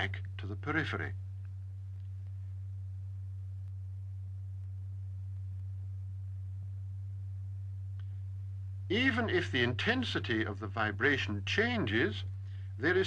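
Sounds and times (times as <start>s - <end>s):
low sine tone: 0.0s - 13.0s.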